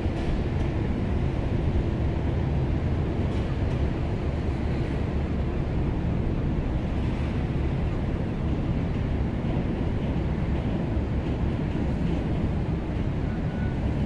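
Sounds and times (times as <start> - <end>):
ship engines rumbling: 0.0 - 14.0.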